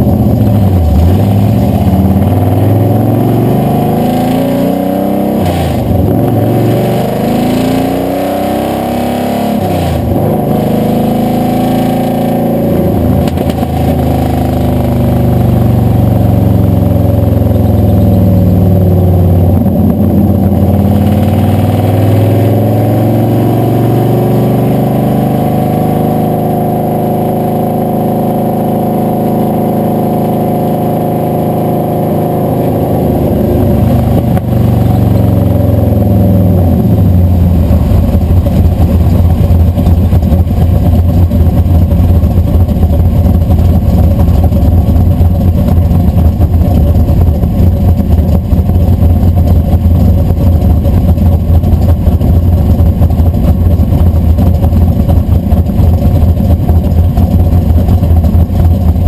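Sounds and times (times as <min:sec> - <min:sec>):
engine and exhaust revving: 0:00.0 - 0:59.0
road and wind noise: 0:00.0 - 0:59.0.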